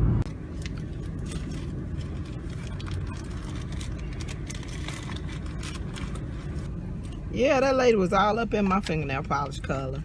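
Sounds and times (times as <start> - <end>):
car cabin low rumble: 0.0 - 10.0.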